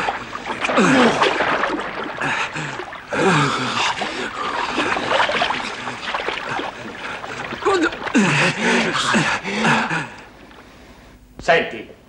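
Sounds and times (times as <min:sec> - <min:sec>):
water splashing and churning: 0:00.0 - 0:10.7
men grunting and gasping: 0:00.6 - 0:10.4.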